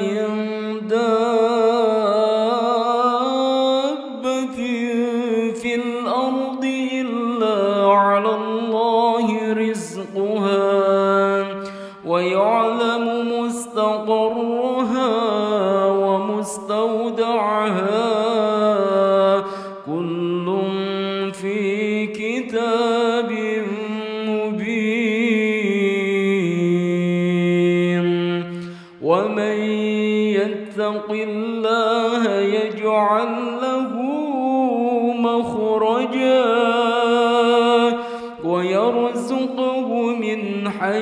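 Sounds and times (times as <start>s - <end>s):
solo voice chanting recitation: 0.0s - 41.0s.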